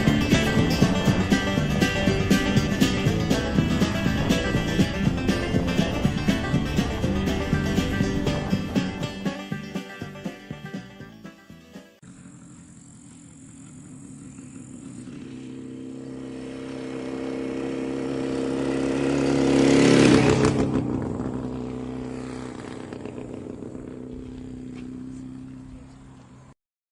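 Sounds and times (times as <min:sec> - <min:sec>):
vehicle engine passing: 0:00.0 - 0:10.6, 0:12.0 - 0:26.6.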